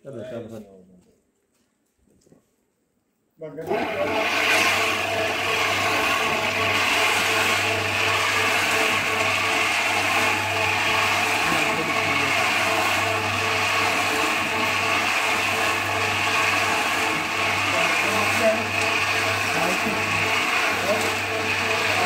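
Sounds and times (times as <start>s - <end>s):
low machine hum: 3.8s - 22.0s.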